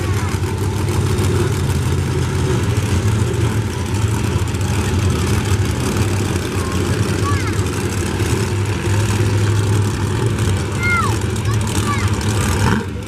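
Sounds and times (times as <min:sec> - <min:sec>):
monster truck engines rumbling: 0:00.0 - 0:13.0.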